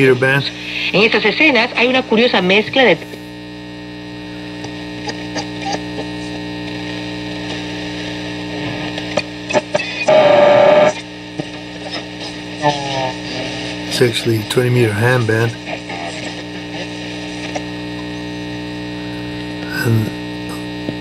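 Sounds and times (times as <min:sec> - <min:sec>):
radio static: 0:00.0 - 0:21.0
steady hum: 0:00.0 - 0:21.0
crackles: 0:00.1 - 0:21.0.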